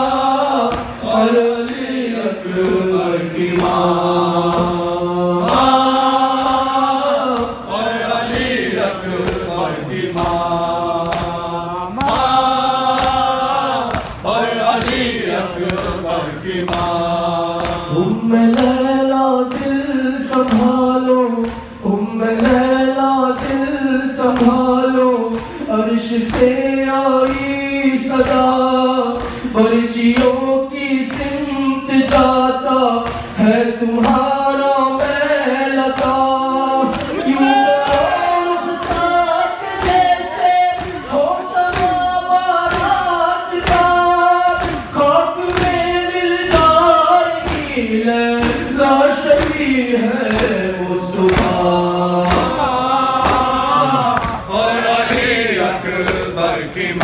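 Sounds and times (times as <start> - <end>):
man chanting into a microphone: 0.0 - 57.0.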